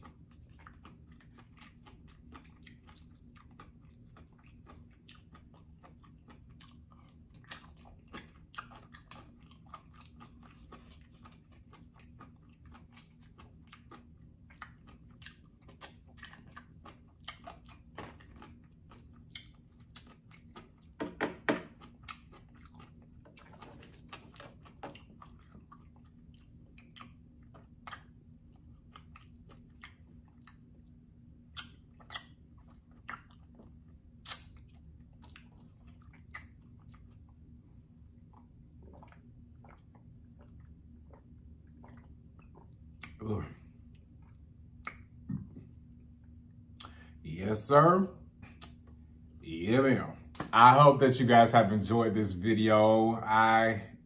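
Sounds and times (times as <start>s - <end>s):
chewing food with mouth smacks: 0.0s - 47.2s, 48.4s - 49.2s.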